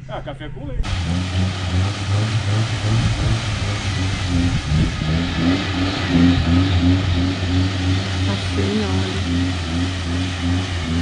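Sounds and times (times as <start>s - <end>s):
engine running: 0.0s - 11.0s
loud broad rushing noise: 0.8s - 11.0s.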